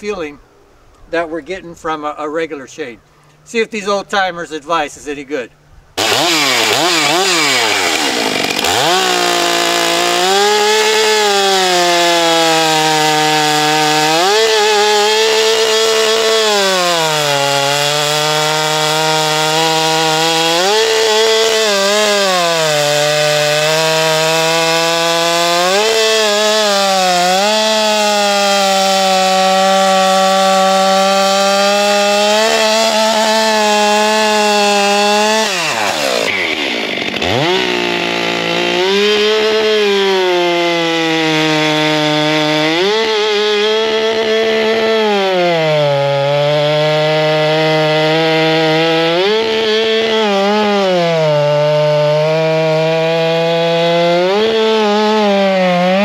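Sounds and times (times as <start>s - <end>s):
chainsaw cutting a log: 6.0s - 56.0s.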